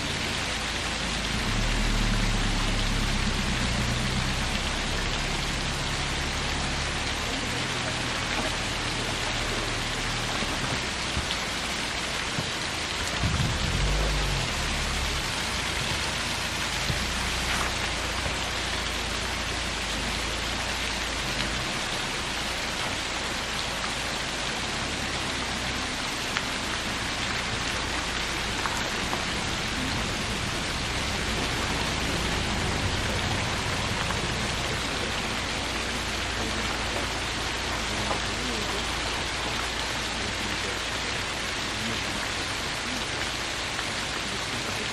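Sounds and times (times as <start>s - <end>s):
low rumble: 0.0s - 22.9s, 25.0s - 39.8s
water splashing over rocks: 0.0s - 44.9s.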